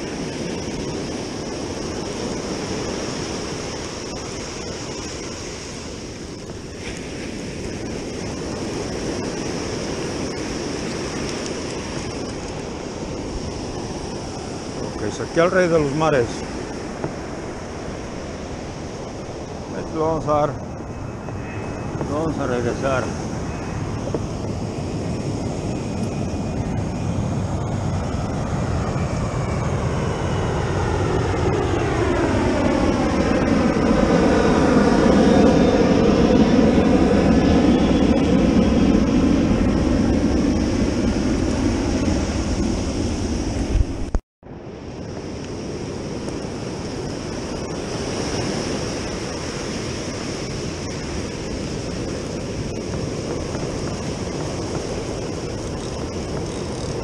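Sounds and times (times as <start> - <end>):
jet airliner passing overhead: 0.0 - 57.0
wind on microphone: 0.0 - 57.0.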